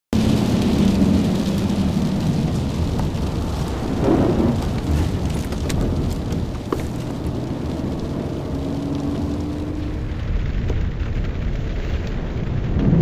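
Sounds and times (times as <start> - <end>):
car engine under load: 0.2 - 11.4
tyres rumbling on wet track: 0.2 - 13.0.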